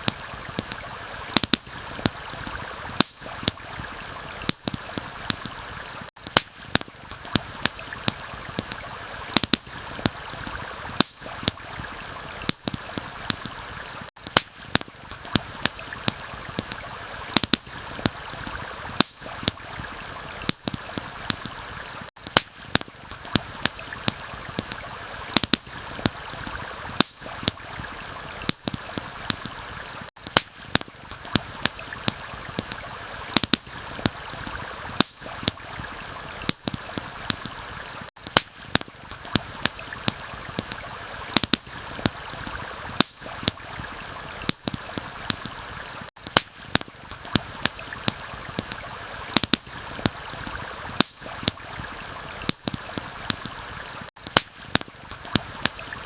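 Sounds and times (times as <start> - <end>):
campfire crackling and popping: 0.0 - 56.0
flowing stream: 0.0 - 56.0.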